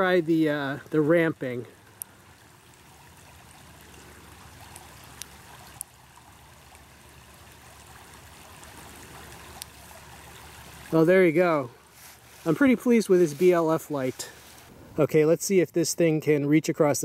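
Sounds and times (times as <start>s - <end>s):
creek water trickling: 0.0s - 14.8s.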